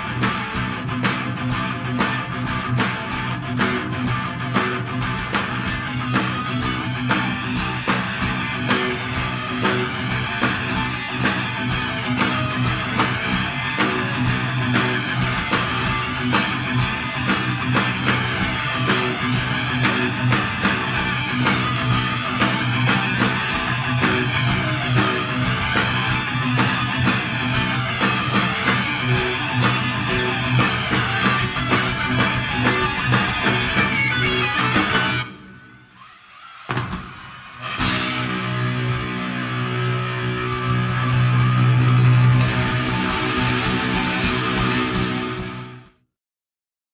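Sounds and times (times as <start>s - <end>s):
fast drums: 0.0s - 35.4s, 36.7s - 45.8s
distorted electric guitars: 0.0s - 36.1s, 36.7s - 46.0s.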